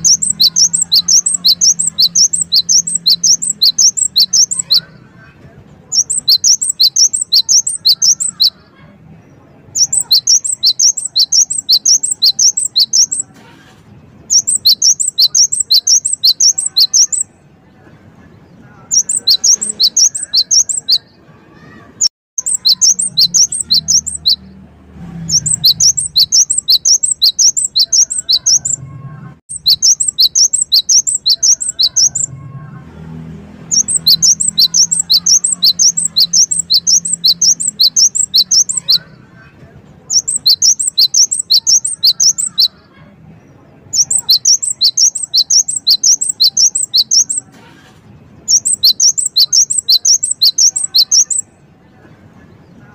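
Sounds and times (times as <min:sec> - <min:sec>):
bird singing rapid high notes: 0:00.0 - 0:05.1, 0:05.8 - 0:13.3, 0:14.1 - 0:17.6, 0:18.4 - 0:32.5, 0:33.1 - 0:39.3, 0:40.0 - 0:42.9, 0:43.8 - 0:47.5, 0:48.3 - 0:51.7.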